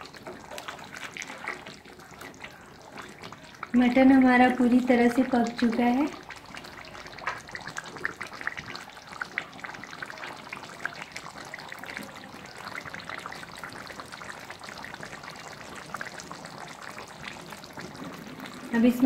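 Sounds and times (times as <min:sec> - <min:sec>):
curry bubbling and popping: 0:00.0 - 0:19.0.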